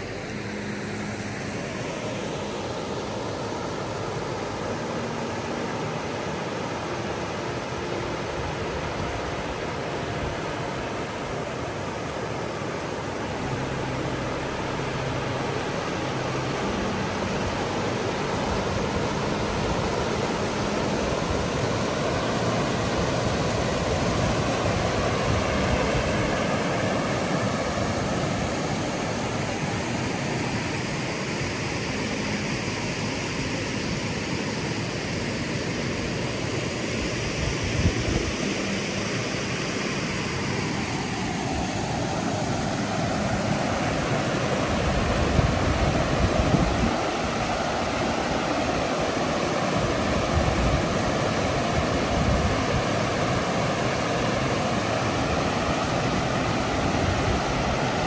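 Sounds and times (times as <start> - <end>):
aircraft drone overhead: 0.0 - 58.0
stream flowing and gurgling: 0.0 - 58.0.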